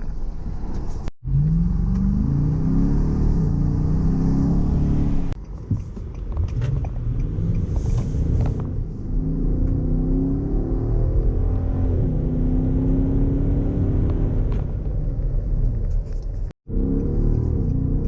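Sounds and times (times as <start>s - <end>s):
car engine accelerating: 0.0s - 15.8s, 16.7s - 18.0s.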